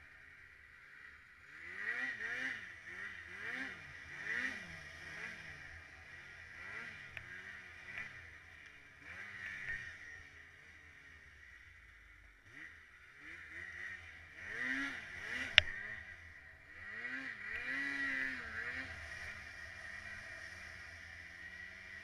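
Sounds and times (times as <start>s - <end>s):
snowmobile engine revving: 0.0s - 11.6s, 12.4s - 22.0s.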